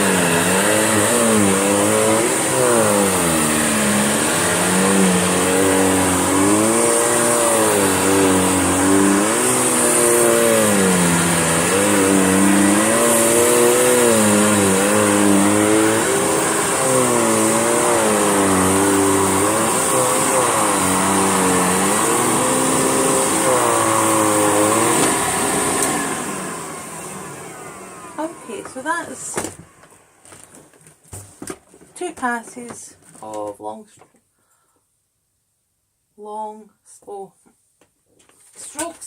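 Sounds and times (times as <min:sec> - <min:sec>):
vacuum cleaner on carpet: 0:00.0 - 0:31.6.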